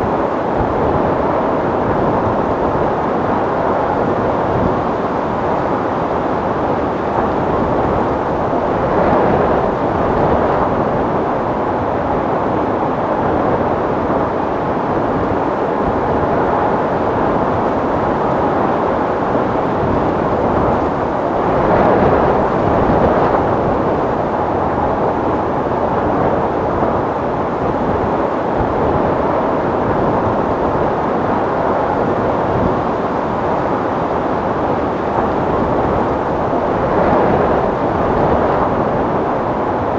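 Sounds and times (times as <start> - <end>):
strong wind blowing in gusts: 0.0 - 39.9.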